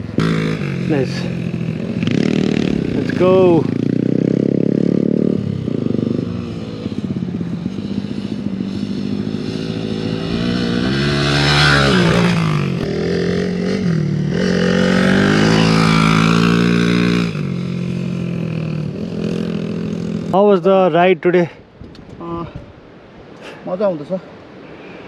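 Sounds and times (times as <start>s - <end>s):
motorcycle engine revving: 0.0s - 20.4s.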